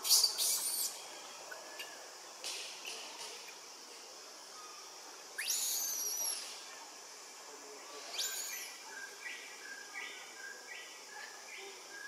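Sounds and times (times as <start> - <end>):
faint high hiss: 0.0 - 12.0.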